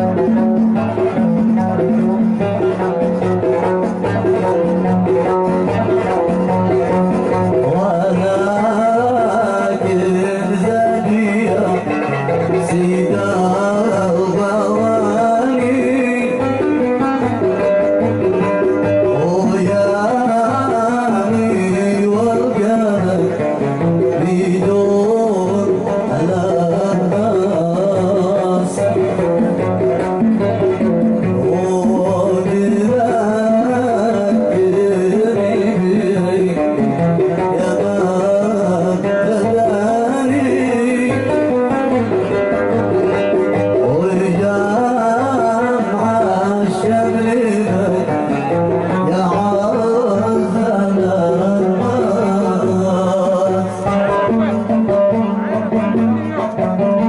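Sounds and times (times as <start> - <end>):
hand drum beat: 0.0 - 57.0
man singing: 0.0 - 57.0
plucked oud: 0.0 - 57.0.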